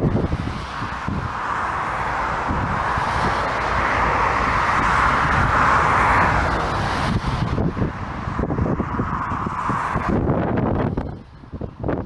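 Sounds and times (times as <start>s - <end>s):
jet engines whining: 0.0s - 12.0s
wind buffeting microphone: 0.0s - 12.0s.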